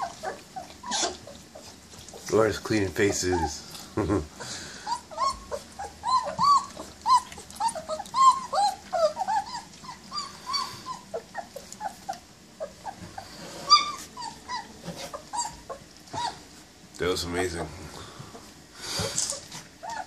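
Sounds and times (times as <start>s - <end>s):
puppies whimpering and squeaking: 0.0s - 20.0s.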